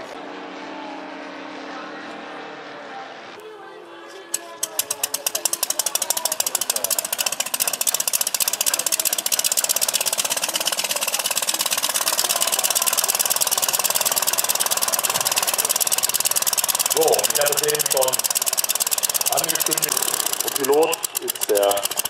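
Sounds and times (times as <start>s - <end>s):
model aircraft engine idling: 4.3s - 22.0s.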